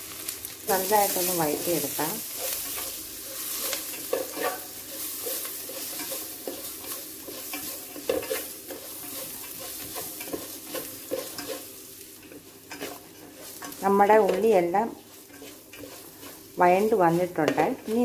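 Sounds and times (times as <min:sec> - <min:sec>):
onions sizzling in hot oil: 0:00.0 - 0:18.0
stirring strokes scraping pan: 0:00.2 - 0:18.0.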